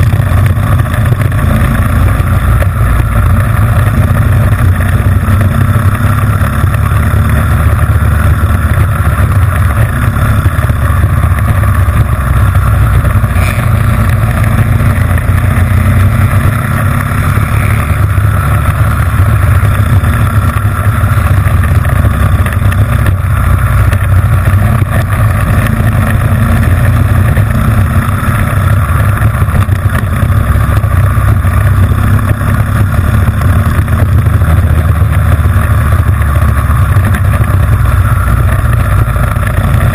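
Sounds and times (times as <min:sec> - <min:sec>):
kart engine at high revs: 0:00.0 - 0:39.9.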